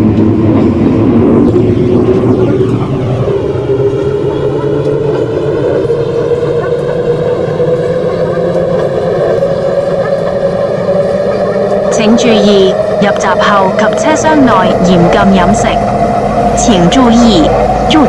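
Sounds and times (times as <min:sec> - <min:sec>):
low train rumble: 0:00.0 - 0:18.0
train motors whining: 0:00.0 - 0:18.0.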